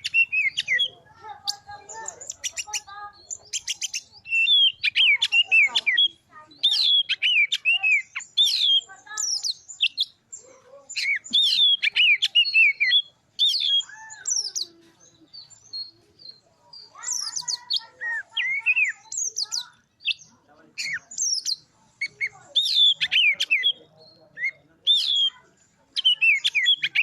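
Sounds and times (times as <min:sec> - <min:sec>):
songbird whistling song: 0:00.0 - 0:27.0.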